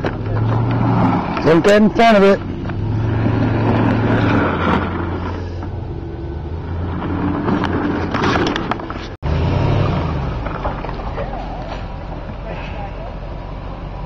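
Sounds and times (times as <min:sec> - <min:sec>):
engine humming at low revs: 0:00.0 - 0:14.0.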